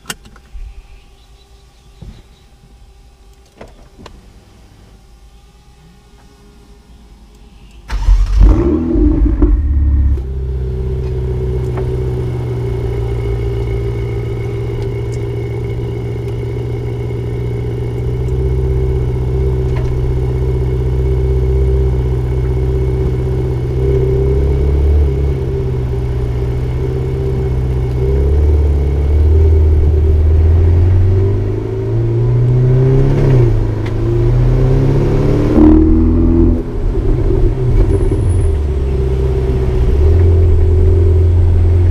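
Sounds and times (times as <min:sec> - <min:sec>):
sports car engine starting and revving: 0:07.9 - 0:41.9.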